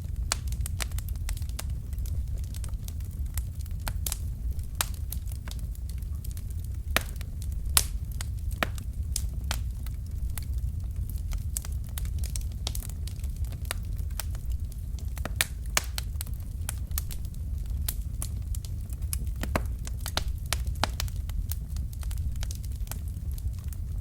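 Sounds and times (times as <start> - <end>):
fire flames rumbling: 0.0 - 24.0
logs crackling and popping: 0.0 - 24.0.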